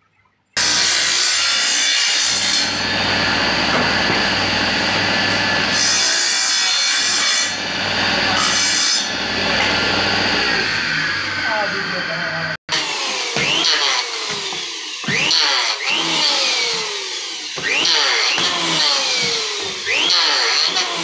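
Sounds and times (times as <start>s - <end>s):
saw motor hum: 0.6s - 21.0s
table saw cutting wood: 0.6s - 21.0s.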